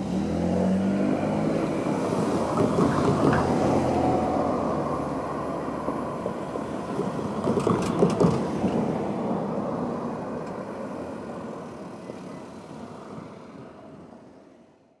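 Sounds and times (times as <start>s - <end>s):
cars driving past: 0.0s - 14.4s.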